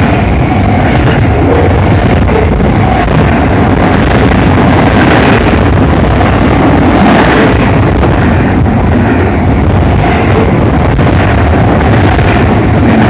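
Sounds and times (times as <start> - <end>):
train cars rattling: 0.0 - 13.0
train wheels rumbling on rail: 0.0 - 13.0.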